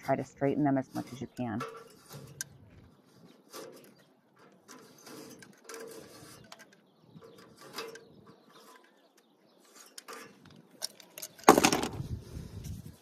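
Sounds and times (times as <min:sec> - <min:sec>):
tool scraping metal fins: 0:00.0 - 0:11.4.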